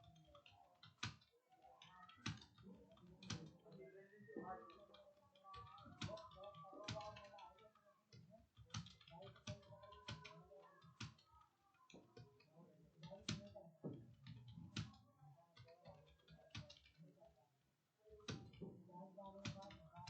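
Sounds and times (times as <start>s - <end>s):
keyboard typing: 0.0s - 17.2s, 18.1s - 20.0s.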